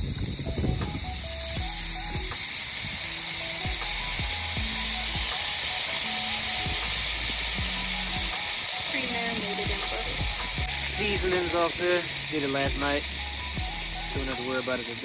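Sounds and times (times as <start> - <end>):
background music: 0.0 - 15.0
food sizzling in a pan: 0.0 - 15.0.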